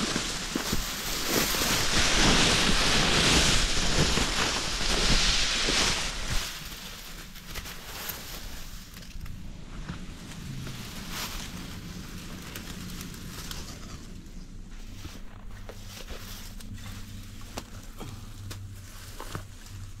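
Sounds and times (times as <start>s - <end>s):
wind rustling dry grass: 0.0s - 20.0s.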